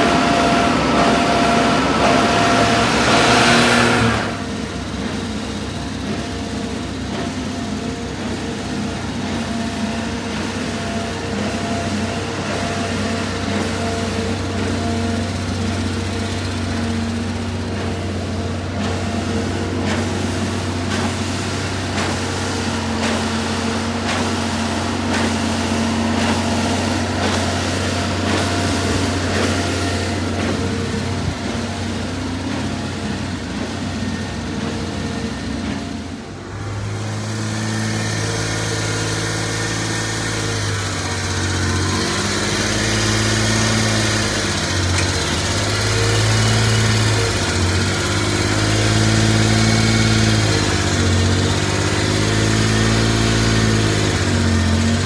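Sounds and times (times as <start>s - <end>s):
small truck engine: 0.0s - 55.0s.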